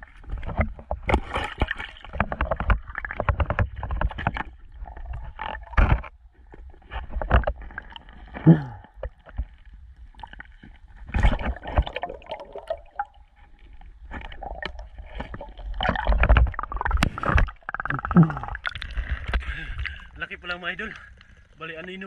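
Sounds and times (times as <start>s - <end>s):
underwater knocks and bumps: 0.0s - 21.9s
muffled underwater rushing and bubbling: 0.0s - 22.0s.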